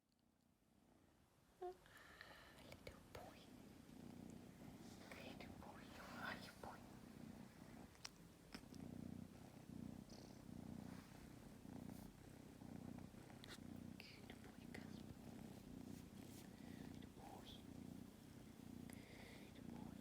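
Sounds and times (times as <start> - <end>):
kitten purring: 1.6 - 20.0.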